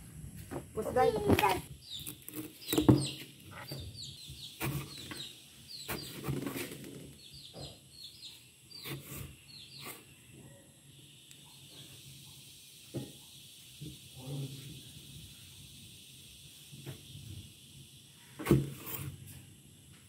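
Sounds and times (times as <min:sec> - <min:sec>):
high falling bird chirps: 0:01.0 - 0:17.4.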